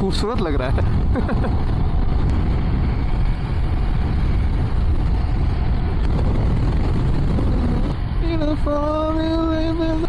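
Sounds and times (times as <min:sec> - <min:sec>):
motorcycle engine rumble: 0:00.0 - 0:10.0
wind on microphone: 0:00.0 - 0:10.0.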